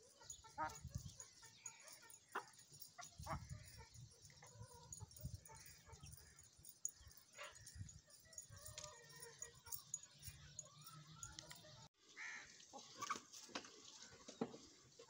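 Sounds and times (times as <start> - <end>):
birds calling: 0.0 - 13.2
faint poultry calls: 0.0 - 13.3.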